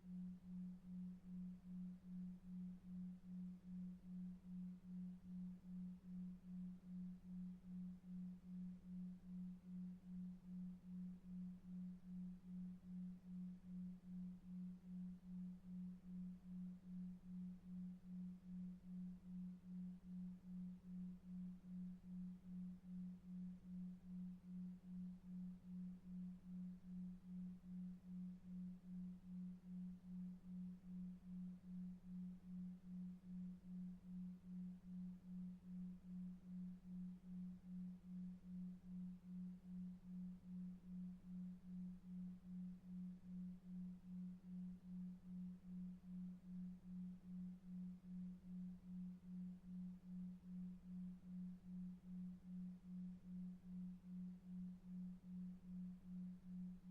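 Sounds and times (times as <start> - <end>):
faint low noise: 0.0 - 56.9.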